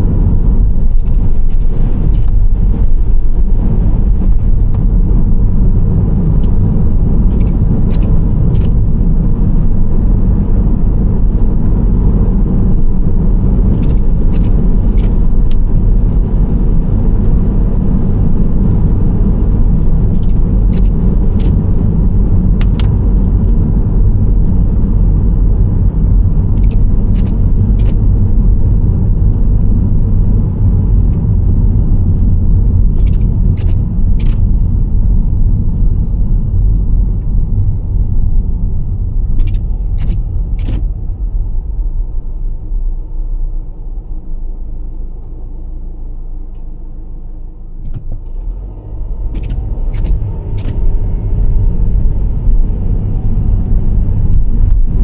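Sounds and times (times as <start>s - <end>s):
engine and tyre rumble: 0.0s - 55.0s.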